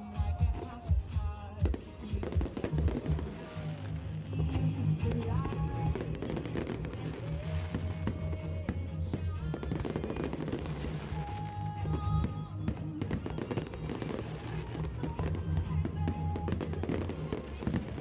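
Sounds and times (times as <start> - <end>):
fireworks bursting and crackling: 0.0 - 18.0
loud music with heavy bass: 0.0 - 18.0.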